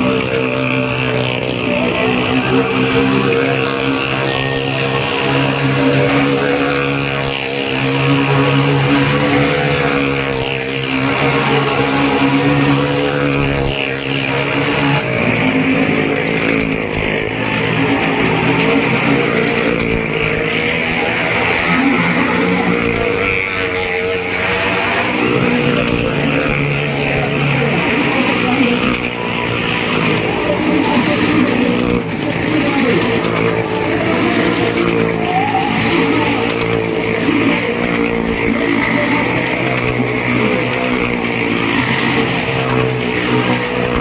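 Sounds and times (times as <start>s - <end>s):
motorcycle engines running: 0.0s - 44.0s
small car engines running: 0.0s - 44.0s.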